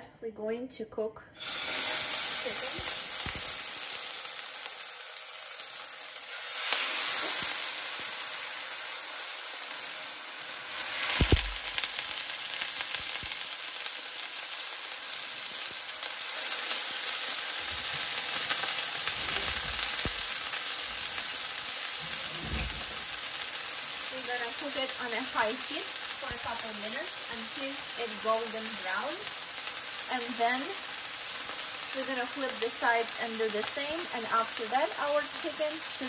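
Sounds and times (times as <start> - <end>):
meat sizzling in hot oil: 1.4 - 36.0.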